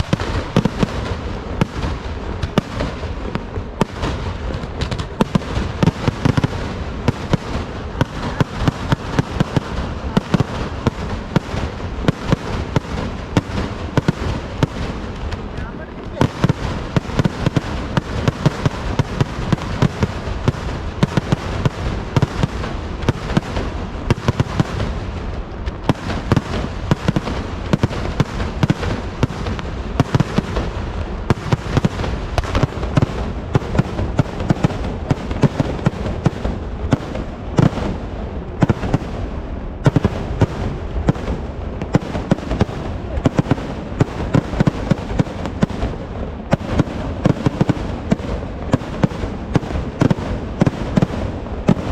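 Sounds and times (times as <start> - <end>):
firecracker barrage: 0.0 - 51.9.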